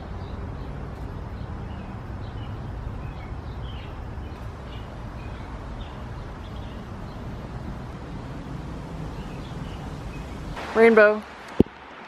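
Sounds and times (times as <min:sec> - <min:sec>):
small birds chirping: 0:00.0 - 0:11.1
steady low rumble: 0:00.0 - 0:11.9.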